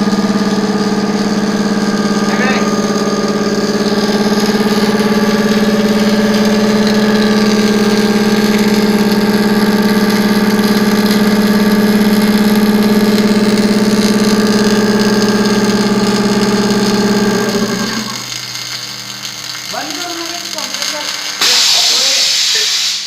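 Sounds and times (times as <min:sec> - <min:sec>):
welding machine humming: 0:00.0 - 0:23.0.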